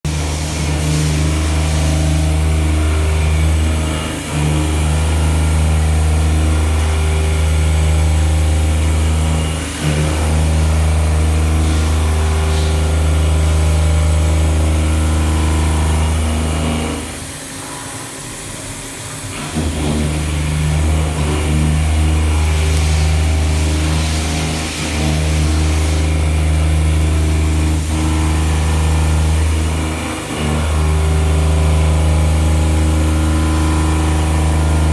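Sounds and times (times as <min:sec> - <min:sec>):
milling machine hum: 0:00.1 - 0:34.9.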